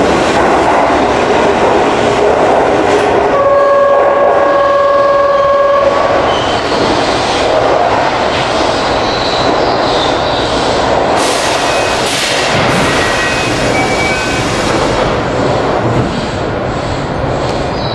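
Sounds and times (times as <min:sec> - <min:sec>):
train wheels rumbling: 0:00.0 - 0:17.9.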